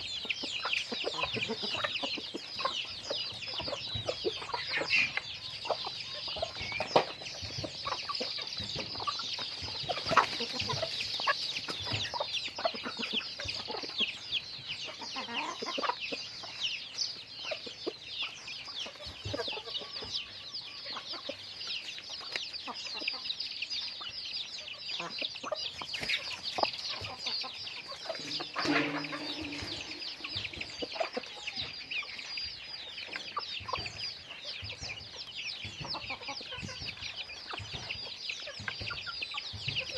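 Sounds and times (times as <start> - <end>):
chickens clucking and chattering: 0.0 - 39.9.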